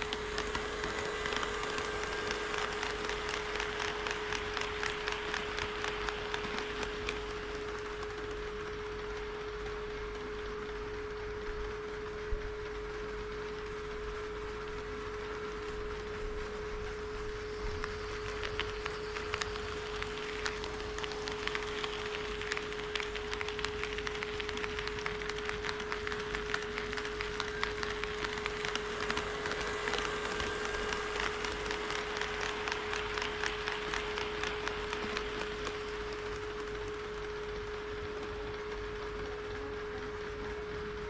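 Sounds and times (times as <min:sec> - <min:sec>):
model train wheels clicking: 0:00.0 - 0:11.7, 0:12.8 - 0:41.0
high-pitched electrical whine: 0:00.0 - 0:41.0
steady hum: 0:00.0 - 0:41.0.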